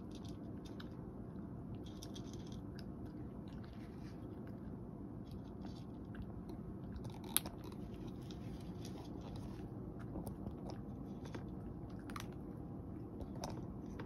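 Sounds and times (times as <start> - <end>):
cat crunching dry kibble: 0.0 - 14.0.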